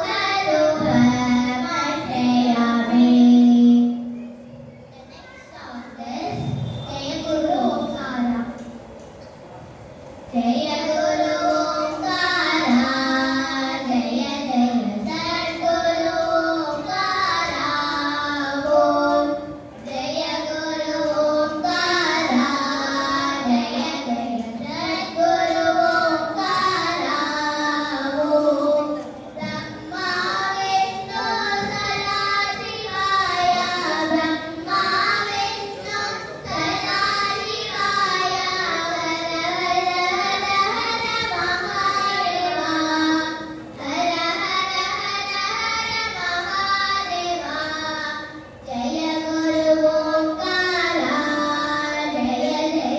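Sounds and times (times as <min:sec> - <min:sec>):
girls singing into microphones: 0:00.0 - 0:04.2, 0:10.3 - 0:52.9.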